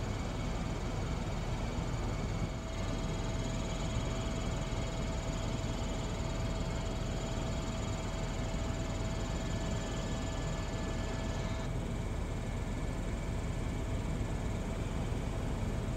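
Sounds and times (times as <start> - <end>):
helicopter cabin drone with whine: 0.0 - 15.9.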